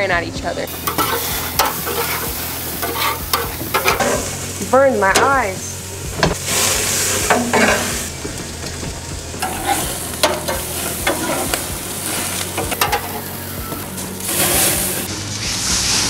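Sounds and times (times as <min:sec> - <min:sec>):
water spray hiss: 0:00.7 - 0:04.7, 0:06.4 - 0:08.8, 0:09.4 - 0:16.0
metal spatula scraping grate: 0:00.7 - 0:05.6, 0:06.2 - 0:08.8, 0:09.4 - 0:15.1
burgers sizzling on a grill: 0:00.7 - 0:16.0.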